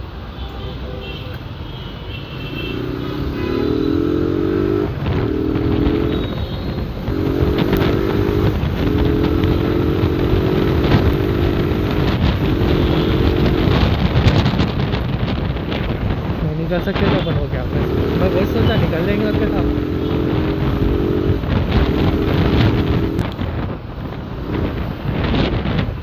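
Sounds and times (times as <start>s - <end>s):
road and wind rumble: 0.0s - 26.0s
motorcycle engine under throttle: 2.7s - 16.2s, 17.0s - 26.0s.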